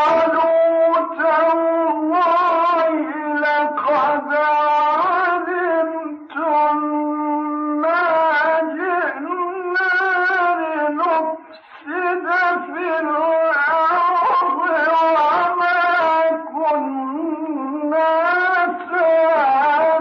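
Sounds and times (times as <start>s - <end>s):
man chanting solo: 0.0s - 20.0s.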